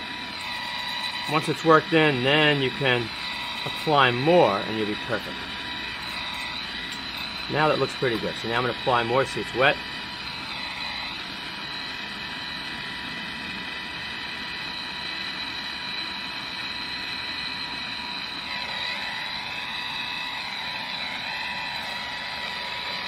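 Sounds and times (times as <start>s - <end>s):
gas torch hissing: 0.0s - 23.0s.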